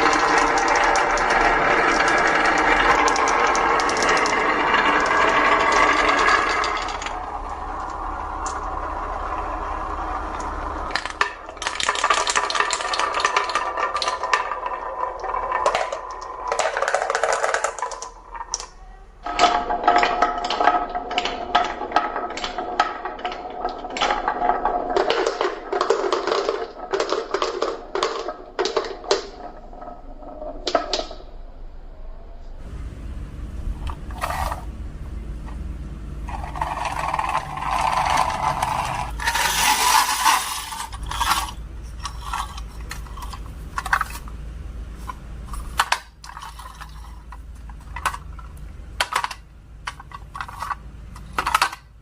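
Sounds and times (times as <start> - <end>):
marbles rolling on wooden track: 0.0 - 31.3, 33.8 - 34.7, 35.5 - 52.0.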